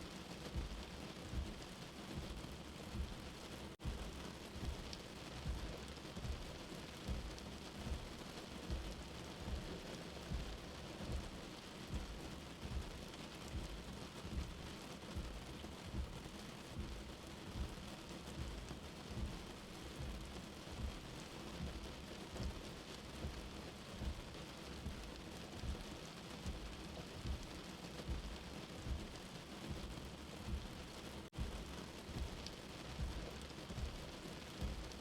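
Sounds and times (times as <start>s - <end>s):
rain heard from inside shelter: 0.0s - 35.0s
low heartbeat thumping: 0.4s - 35.0s.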